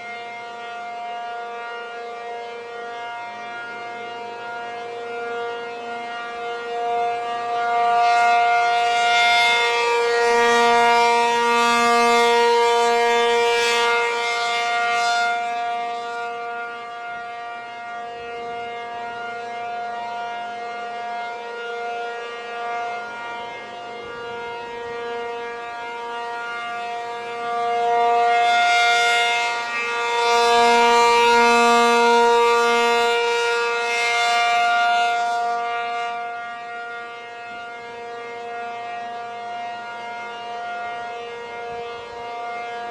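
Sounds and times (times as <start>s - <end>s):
tornado siren steady tone: 0.0s - 42.9s.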